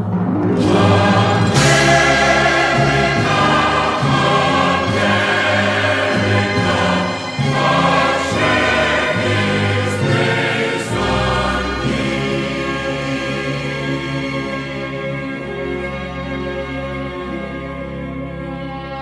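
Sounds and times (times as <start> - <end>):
orchestral music: 0.0 - 19.0
choir singing held notes: 0.2 - 17.8.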